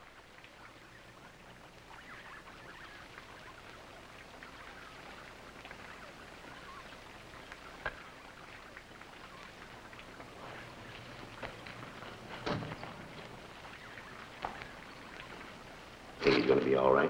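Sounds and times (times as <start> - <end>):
faint drip-like ticks: 0.0 - 17.0
steady low hum: 0.0 - 17.0.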